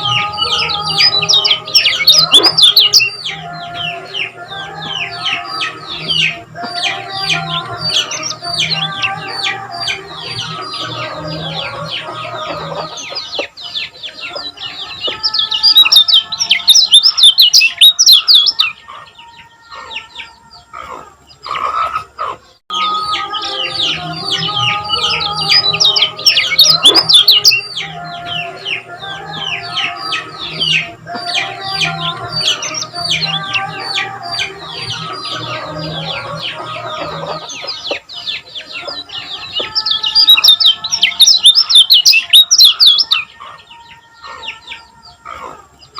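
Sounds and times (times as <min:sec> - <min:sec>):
bird singing high chirps: 0:00.0 - 0:21.6, 0:22.7 - 0:45.9.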